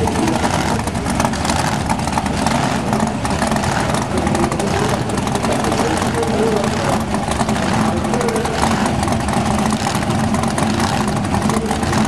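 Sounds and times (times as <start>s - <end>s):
car engine revving: 0.0s - 12.0s
loud steady noise: 0.0s - 12.0s.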